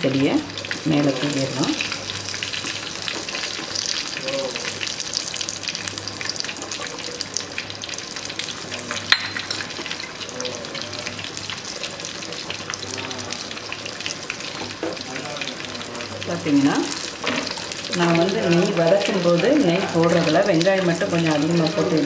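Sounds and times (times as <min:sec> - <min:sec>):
food boiling in water: 0:00.0 - 0:22.0.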